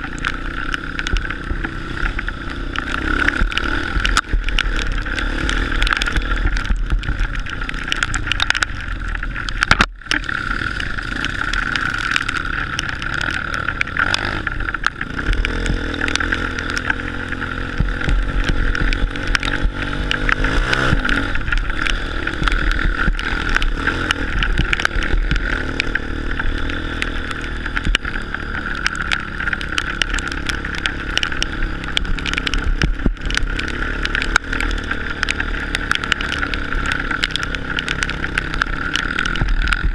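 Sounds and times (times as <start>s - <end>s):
dirt bike engine revving: 0.0s - 7.9s, 10.2s - 39.9s.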